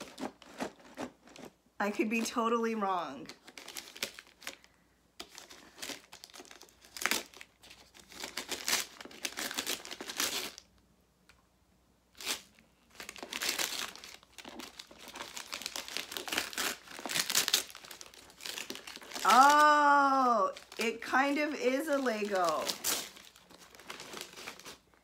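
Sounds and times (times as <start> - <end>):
wrapping paper tearing and crinkling: 0.0 - 1.5, 3.3 - 10.7, 12.1 - 25.0.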